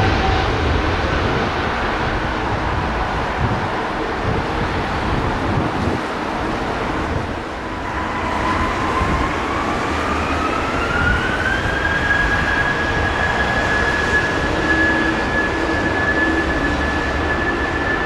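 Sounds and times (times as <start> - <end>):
jet engine whine: 0.0 - 18.0
jet engines roaring: 0.0 - 18.0.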